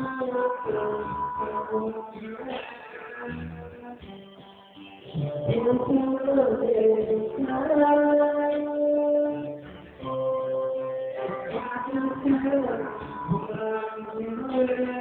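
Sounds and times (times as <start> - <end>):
man singing into microphone: 0.0 - 4.2, 5.2 - 15.0.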